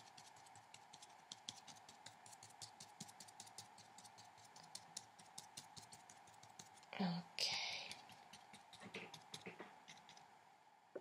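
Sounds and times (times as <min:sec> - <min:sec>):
brush dabbing paint on paper: 0:00.0 - 0:10.3
faint steady hum: 0:00.0 - 0:11.0.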